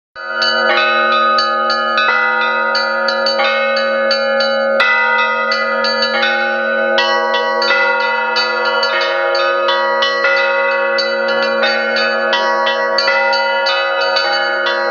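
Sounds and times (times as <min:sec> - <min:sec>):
heavy bells ringing: 0:00.2 - 0:14.9
light church bells struck quickly: 0:00.2 - 0:14.9.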